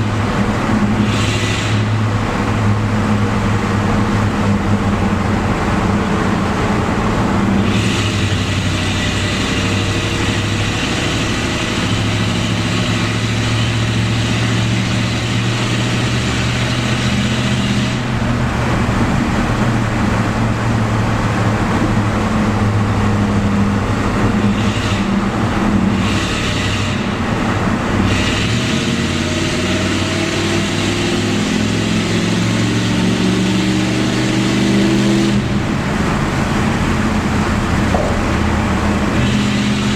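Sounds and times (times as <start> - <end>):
car engine running in tunnel: 0.0 - 39.9.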